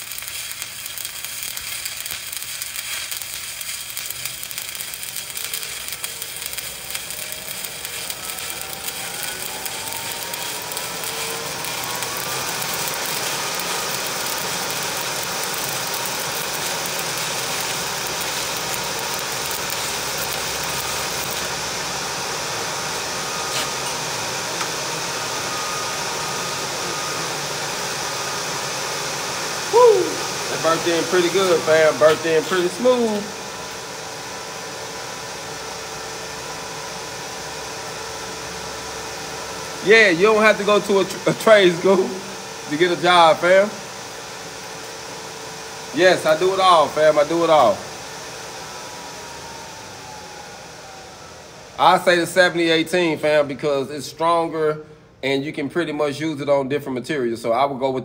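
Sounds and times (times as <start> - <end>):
welding arc crackling: 0.0 - 50.0
mechanical whir and hiss: 0.0 - 51.8.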